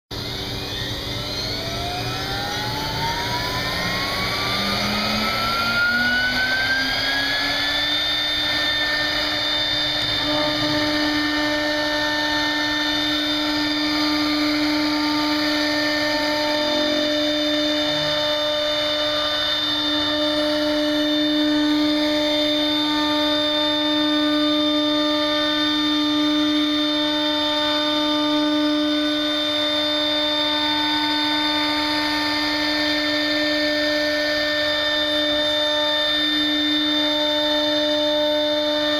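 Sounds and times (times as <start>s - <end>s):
router spindle whine: 0.1s - 38.9s.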